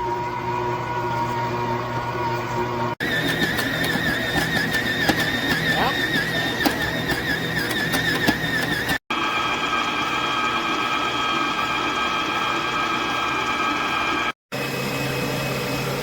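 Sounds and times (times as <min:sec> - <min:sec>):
stand mixer motor whine: 0:00.0 - 0:16.0.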